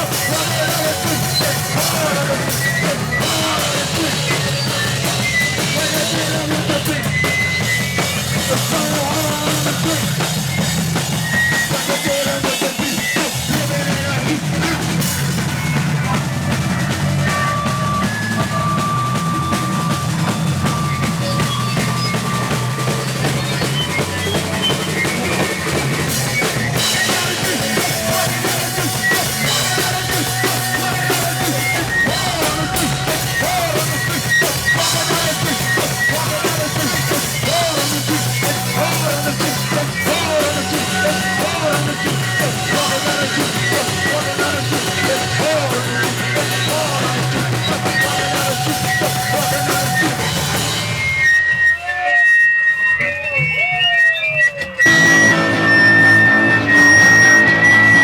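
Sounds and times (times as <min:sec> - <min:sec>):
drum kit: 0:00.0 - 0:52.1, 0:53.6 - 0:58.0
punk band playing live: 0:00.0 - 0:58.0.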